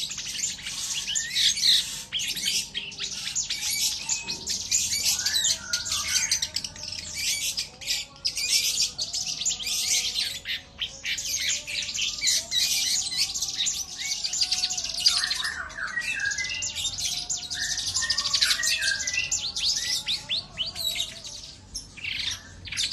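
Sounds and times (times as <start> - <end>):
shrike singing: 0.0 - 22.9.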